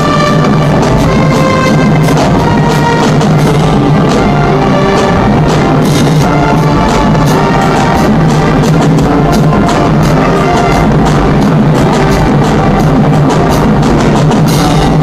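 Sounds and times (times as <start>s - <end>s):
brass notes: 0.0s - 15.0s
marching band playing: 0.0s - 15.0s
snare and bass drums: 0.0s - 15.0s.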